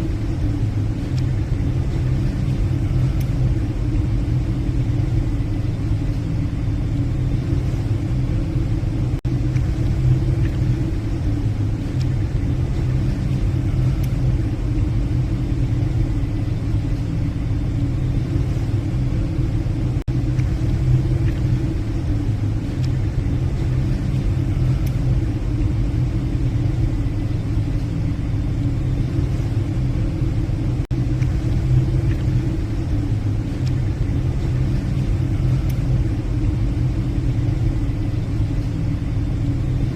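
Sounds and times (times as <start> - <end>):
ship engine deep rumble: 0.0 - 39.9.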